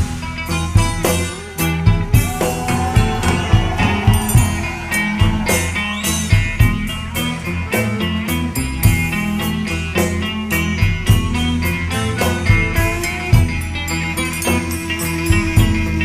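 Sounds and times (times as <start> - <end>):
bass: 0.0 - 16.0
drums with steady beat: 0.0 - 16.0
guitar: 0.0 - 16.0.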